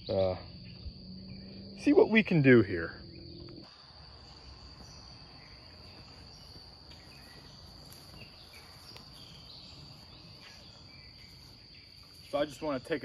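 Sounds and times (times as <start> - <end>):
bird chirps: 0.0 - 13.0
insects droning: 0.0 - 13.0.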